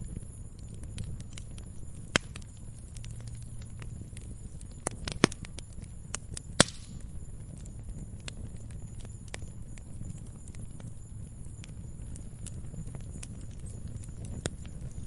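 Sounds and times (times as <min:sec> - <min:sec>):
fire crackling: 0:00.0 - 0:15.0
sharp pops of fire: 0:00.0 - 0:15.0.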